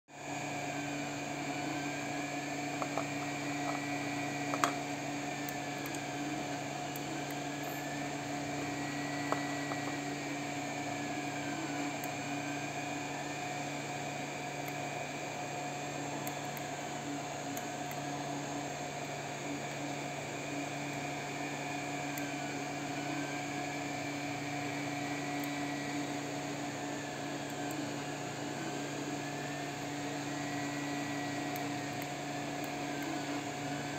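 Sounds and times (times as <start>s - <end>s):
machine hum with high whine: 0.1s - 33.9s.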